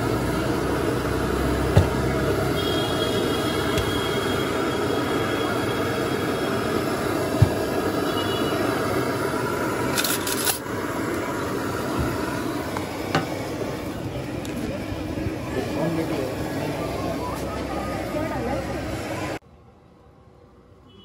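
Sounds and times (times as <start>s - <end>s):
low traffic rumble: 0.0s - 21.0s.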